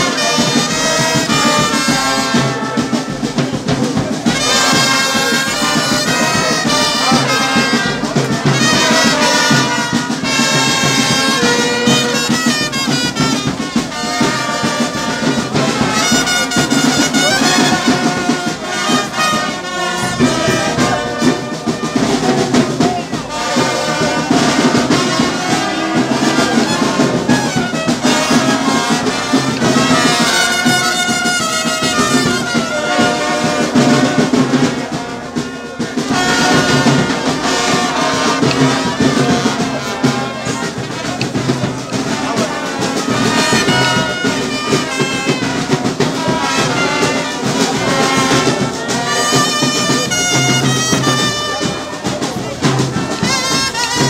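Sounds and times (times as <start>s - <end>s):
marching brass band playing: 0.0s - 54.0s.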